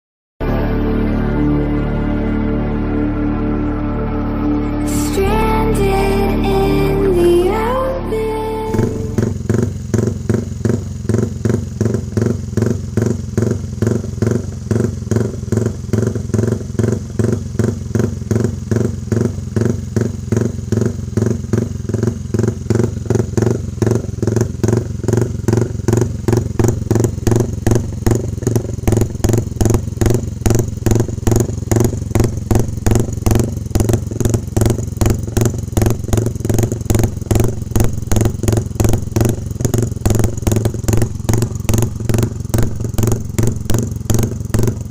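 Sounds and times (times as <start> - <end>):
motorcycle engine idling: 8.3 - 44.9.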